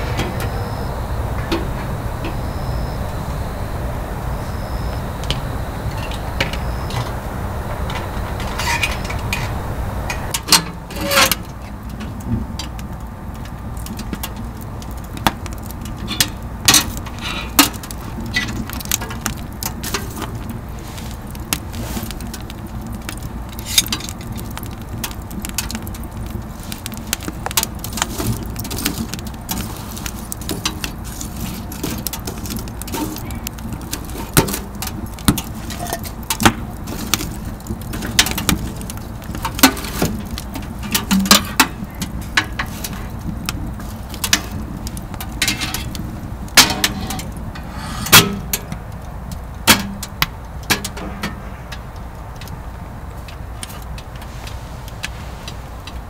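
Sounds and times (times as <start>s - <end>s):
low stove rumble: 0.0s - 56.0s
wood fire crackling and popping: 0.0s - 56.0s.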